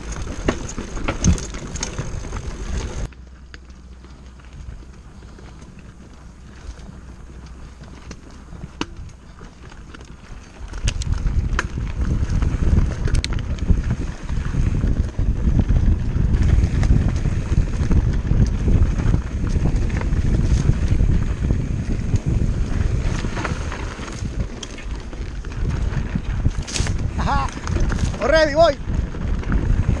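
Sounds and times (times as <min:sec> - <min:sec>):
bike clicks and rattles: 0:00.0 - 0:30.0
bike tyres rumbling on rocky dirt: 0:00.0 - 0:30.0
wind buffeting microphone: 0:04.5 - 0:30.0.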